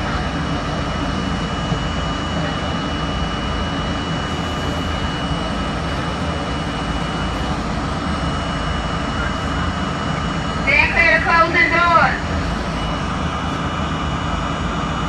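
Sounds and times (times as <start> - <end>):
subway car hum and rumble: 0.0 - 15.0.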